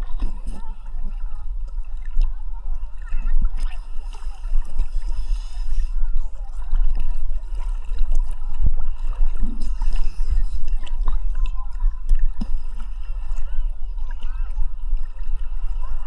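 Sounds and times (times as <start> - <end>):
small splashes: 0.0 - 16.0
water buffeting microphone: 0.0 - 16.0
water sloshing and gurgling: 0.0 - 16.0.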